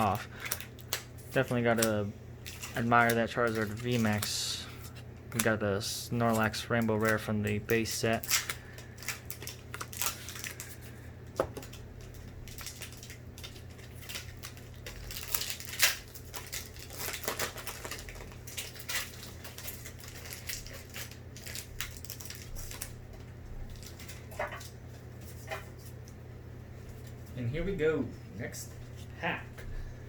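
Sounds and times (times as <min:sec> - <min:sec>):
foil packs crinkling: 0:00.0 - 0:26.1.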